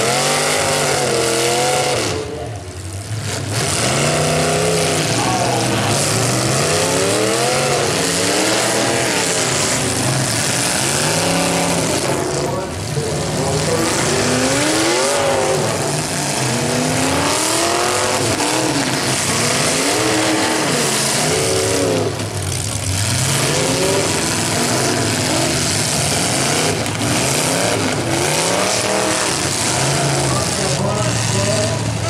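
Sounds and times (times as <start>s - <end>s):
car engines revving hard: 0.0s - 32.0s
cars ramming each other: 0.0s - 32.0s.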